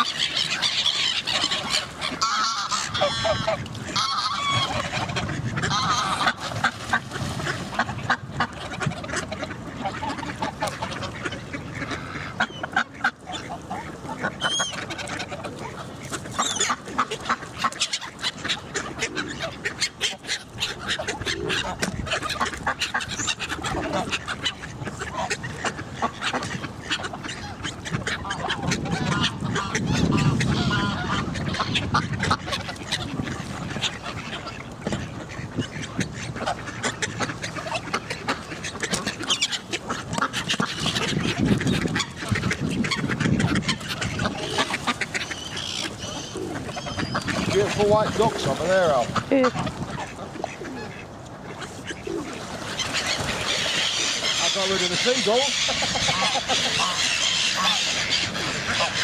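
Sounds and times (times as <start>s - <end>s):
ducks quacking: 0.0s - 59.0s
geese honking: 0.0s - 59.0s.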